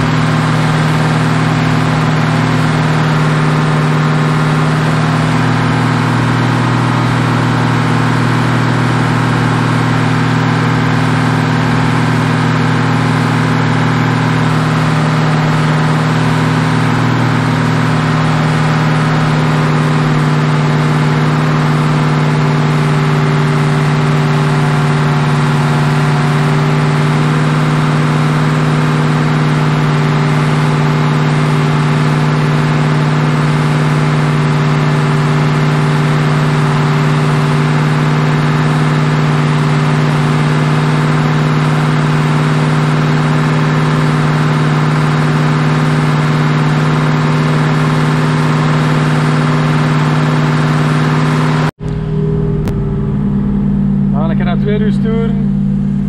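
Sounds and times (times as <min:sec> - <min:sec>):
car engine running steadily: 0:00.0 - 0:56.0.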